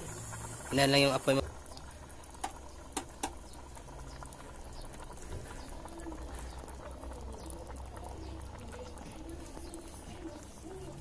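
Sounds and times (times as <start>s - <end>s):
pot boiling with bubbling pops: 0.0s - 11.0s.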